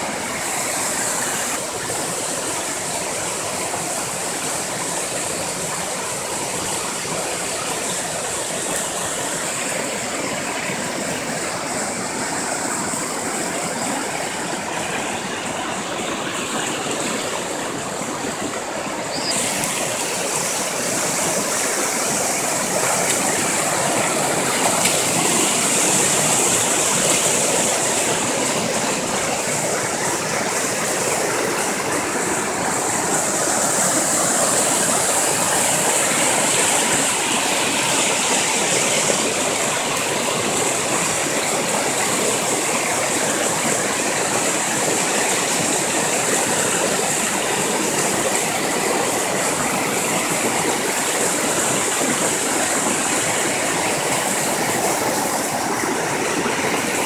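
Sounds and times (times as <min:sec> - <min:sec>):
waterfall rushing over rock: 0:00.0 - 0:57.0.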